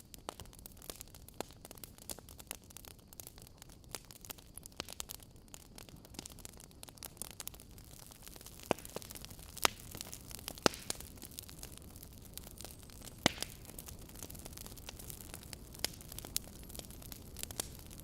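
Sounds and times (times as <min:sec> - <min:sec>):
loud fire pops: 0:00.0 - 0:18.0
wood fire crackling: 0:00.0 - 0:18.0.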